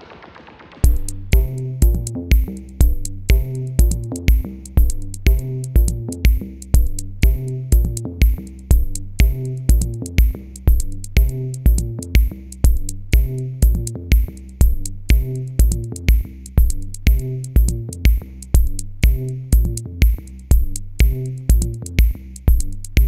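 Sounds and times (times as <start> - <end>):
drum machine beat: 0.0 - 23.0.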